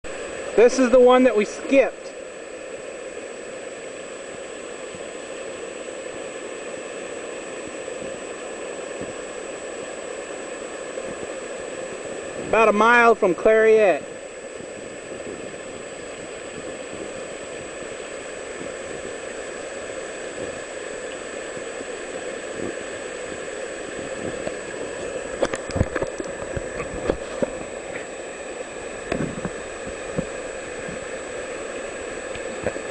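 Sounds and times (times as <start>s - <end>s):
floodwater rushing and gurgling: 0.0s - 32.9s.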